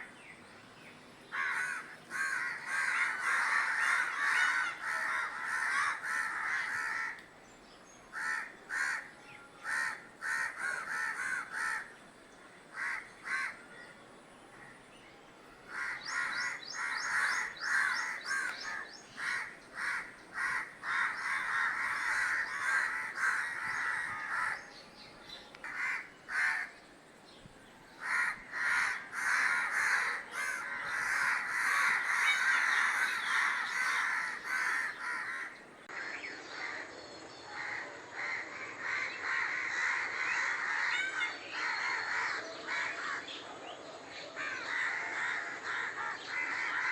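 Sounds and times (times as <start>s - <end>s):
crows cawing: 1.3s - 7.3s, 8.1s - 11.9s, 12.7s - 13.6s, 15.7s - 24.7s, 25.6s - 26.8s, 28.0s - 36.8s, 37.6s - 43.3s, 44.4s - 46.9s.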